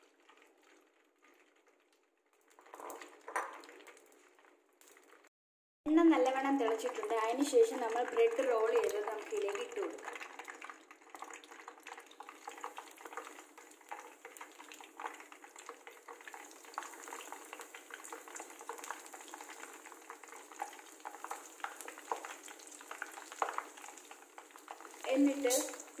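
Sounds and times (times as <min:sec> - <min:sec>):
oil sizzling while deep-frying: 0:00.0 - 0:05.3, 0:05.9 - 0:26.0.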